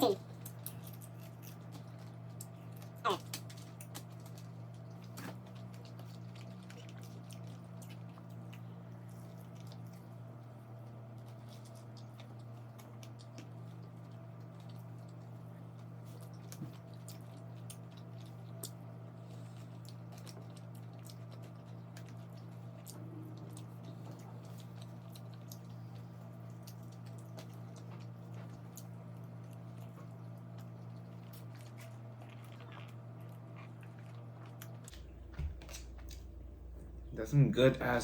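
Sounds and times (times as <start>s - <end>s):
steady low hum: 0.0s - 38.0s
wet chewing and mouth clicks: 0.1s - 36.4s.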